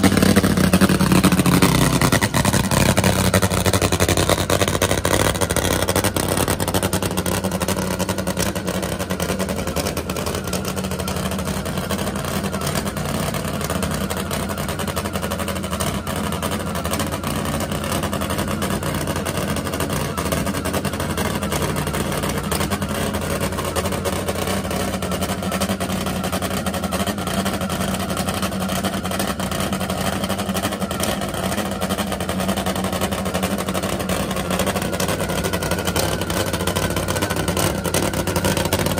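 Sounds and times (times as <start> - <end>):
drag motorcycle engine idling: 0.0 - 38.9.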